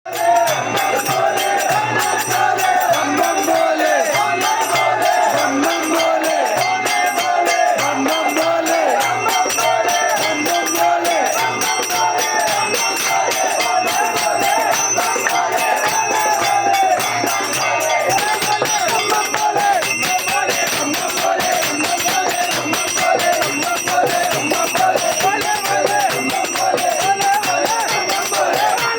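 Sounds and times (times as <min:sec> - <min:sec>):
jingling percussion: 0:00.0 - 0:28.9
chanted voices: 0:00.1 - 0:28.9.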